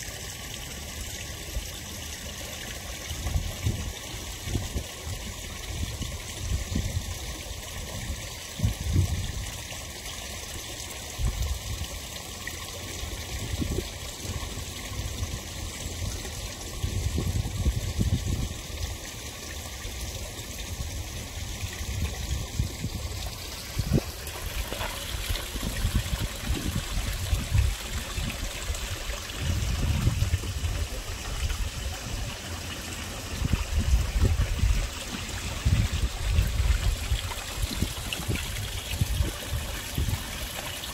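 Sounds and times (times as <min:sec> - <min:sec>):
pond water trickling and splashing: 0:00.0 - 0:40.9.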